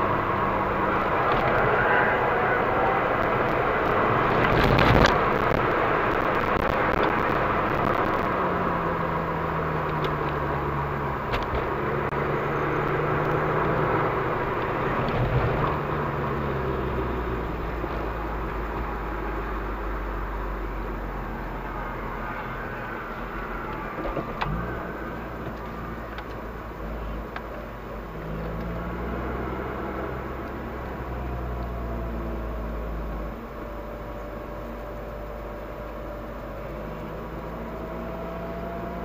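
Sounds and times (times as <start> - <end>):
car engine at low revs: 0.0 - 39.0
road and tyre noise: 0.0 - 39.0.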